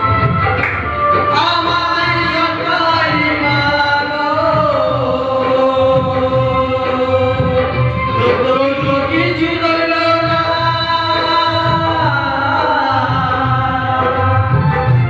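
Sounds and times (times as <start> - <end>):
amplified band music: 0.0 - 15.0
man singing into a microphone: 1.0 - 15.0.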